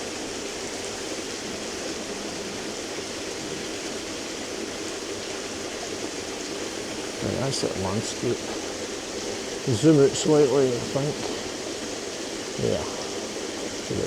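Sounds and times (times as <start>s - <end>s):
waterfall and stream rushing: 0.0s - 14.0s.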